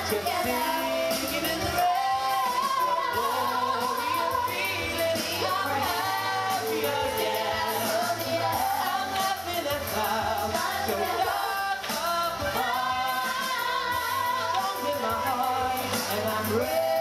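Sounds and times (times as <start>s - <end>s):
amplified backing music: 0.0s - 17.0s
choir singing: 0.0s - 17.0s
man singing: 0.0s - 17.0s.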